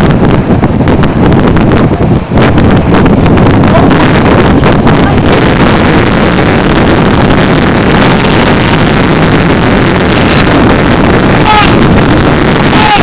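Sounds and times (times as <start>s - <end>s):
storm wind buffeting microphone: 0.0s - 13.0s
vehicle rumble: 0.0s - 13.0s.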